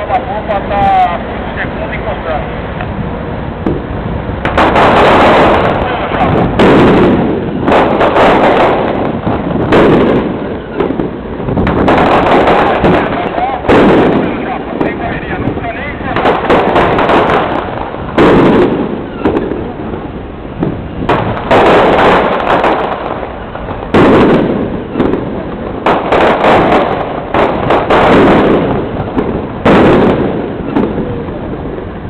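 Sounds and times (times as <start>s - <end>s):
fireworks bangs: 3.4s - 32.0s.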